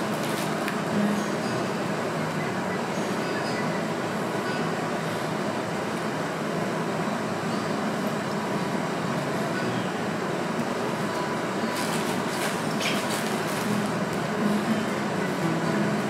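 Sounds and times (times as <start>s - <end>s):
room noise hiss and rumble: 0.0s - 16.0s.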